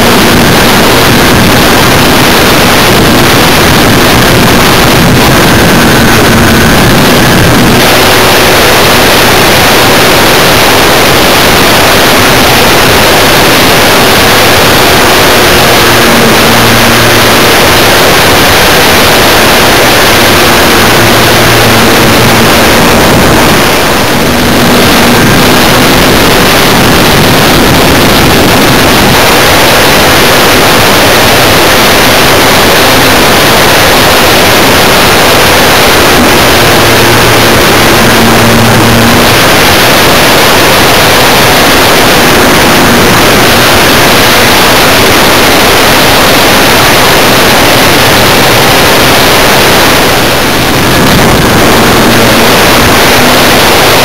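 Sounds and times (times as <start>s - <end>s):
faint motor and propeller hum: 0.0s - 54.0s
wind rushing over microphone: 0.0s - 54.0s.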